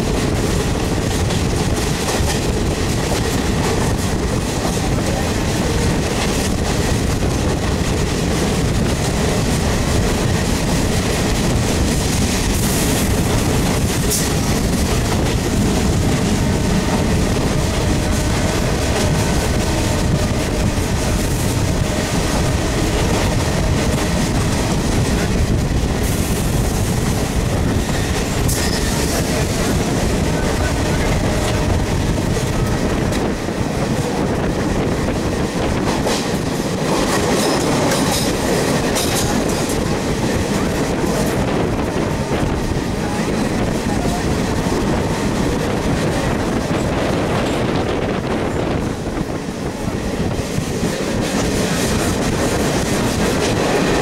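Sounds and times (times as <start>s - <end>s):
train wheels running on track: 0.0s - 54.0s.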